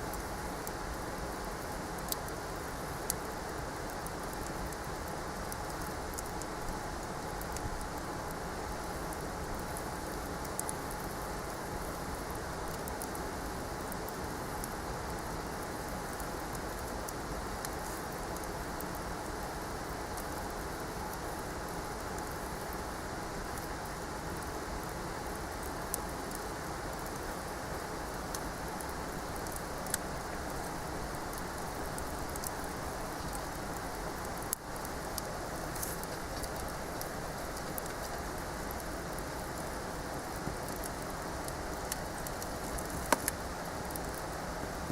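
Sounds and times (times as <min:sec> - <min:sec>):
campfire hissing: 0:00.0 - 0:44.9
fire crackling and popping: 0:00.1 - 0:44.9.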